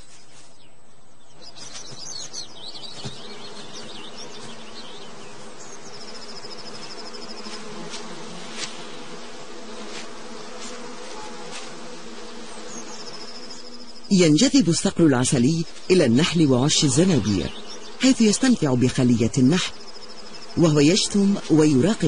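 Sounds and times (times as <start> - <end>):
swarm of insects buzzing: 1.4 - 22.0.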